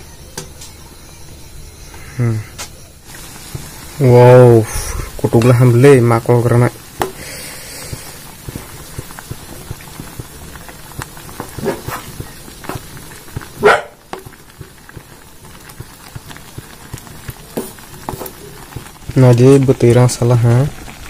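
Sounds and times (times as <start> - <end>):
broth bubbling in a pan: 0.0 - 21.0
wooden spatula stirring and scraping: 3.1 - 21.0.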